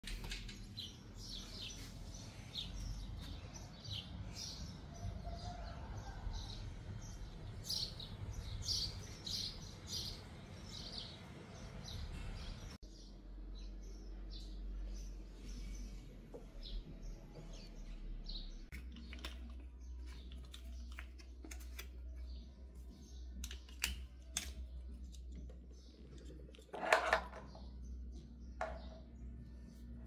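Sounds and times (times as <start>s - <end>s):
birds chirping: 0.1s - 30.0s.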